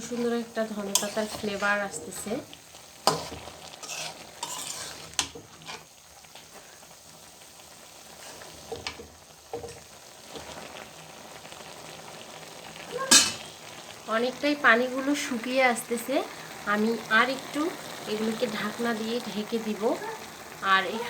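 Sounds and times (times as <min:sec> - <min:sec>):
low sizzle: 0:00.0 - 0:21.0
vegetables being stirred: 0:00.0 - 0:21.0.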